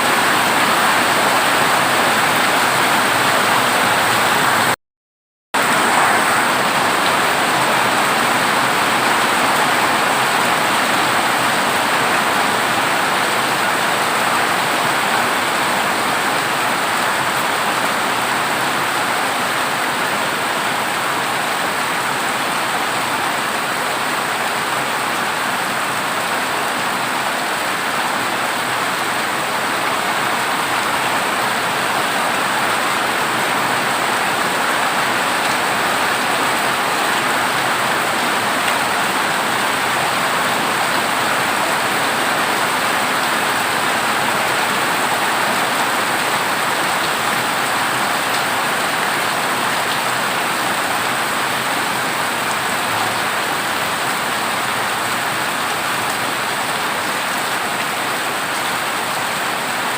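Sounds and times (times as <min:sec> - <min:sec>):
heavy rain on metal roof: 0:00.0 - 0:04.8, 0:05.6 - 0:59.9.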